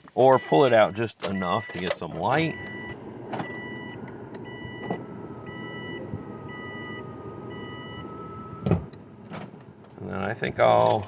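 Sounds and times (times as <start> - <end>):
vehicle warning chime beeping: 0.2 - 9.3.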